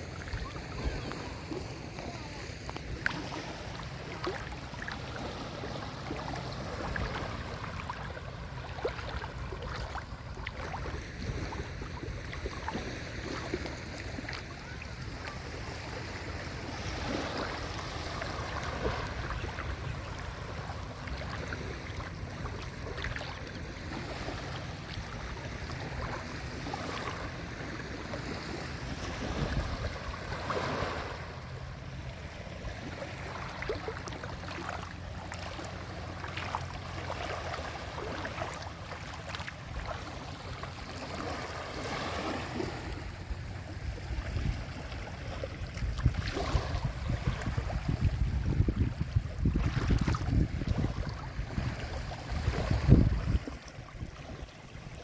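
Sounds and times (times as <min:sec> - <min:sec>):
small waves washing onto shore: 0:00.0 - 0:55.0.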